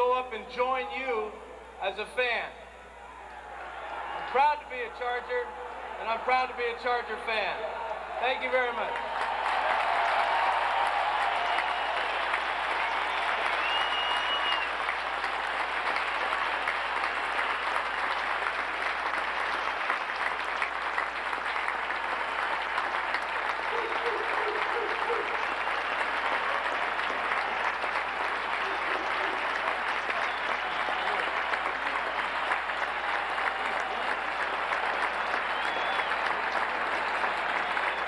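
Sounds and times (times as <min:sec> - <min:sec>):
stadium crowd applauding: 0:03.0 - 0:38.0.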